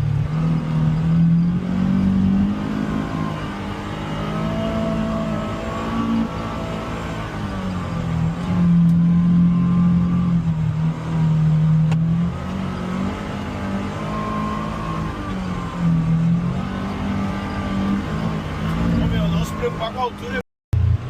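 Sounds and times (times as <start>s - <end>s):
utility vehicle engine revving: 0.0s - 21.0s.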